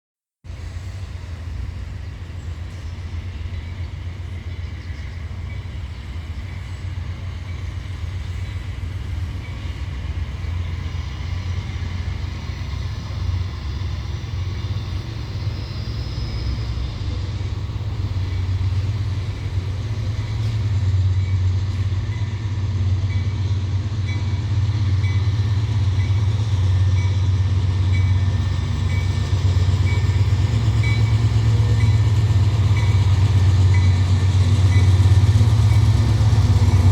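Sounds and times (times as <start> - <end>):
diesel locomotive engine drone: 0.5 - 36.9.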